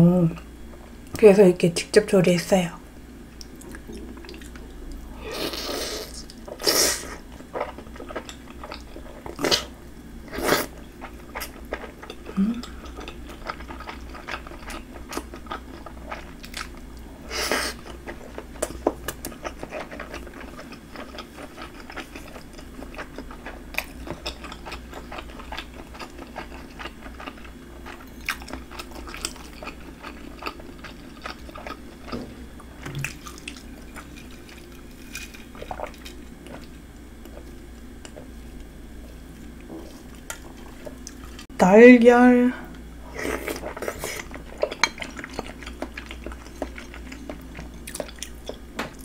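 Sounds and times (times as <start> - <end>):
person chewing food: 3.4 - 41.5, 43.1 - 49.0.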